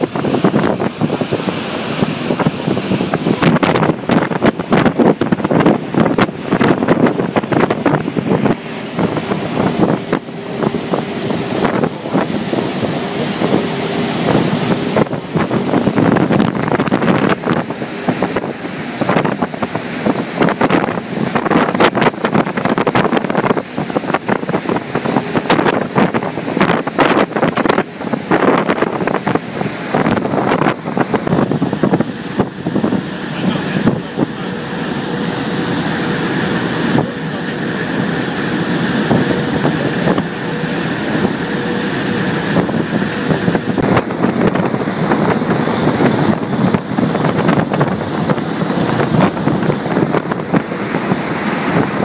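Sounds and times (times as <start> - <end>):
rushing boat wake: 0.0 - 52.0
wind buffeting microphone: 0.0 - 52.0.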